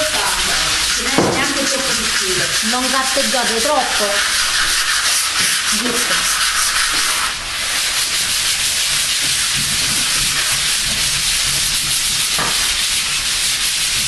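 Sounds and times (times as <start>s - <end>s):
sandpaper rubbing on wood: 0.0s - 14.0s.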